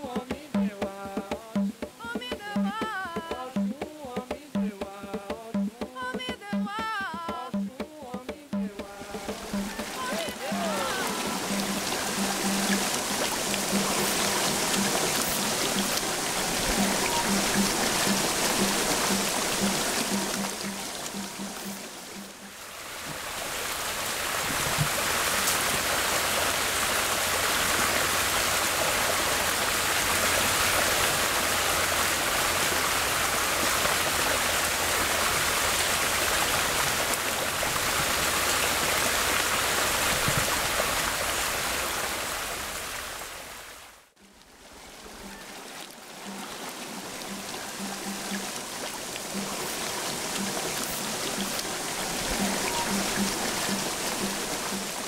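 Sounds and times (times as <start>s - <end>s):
stream water running over stones: 0.0s - 55.0s.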